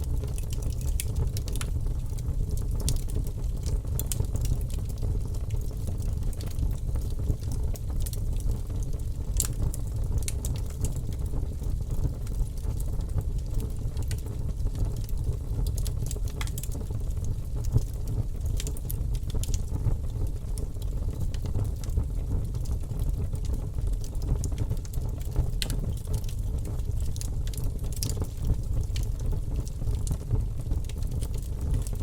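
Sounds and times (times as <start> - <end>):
low fire rumble: 0.0 - 32.0
wood crackling in campfire: 0.0 - 32.0.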